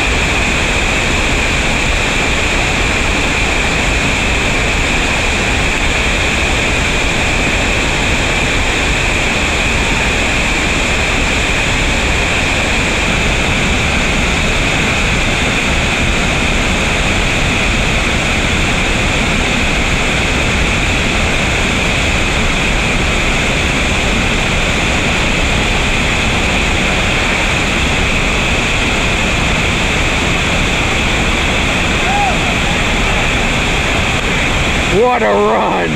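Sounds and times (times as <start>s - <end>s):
rushing whitewater rapids: 0.0s - 35.9s
waterfall: 0.0s - 35.9s.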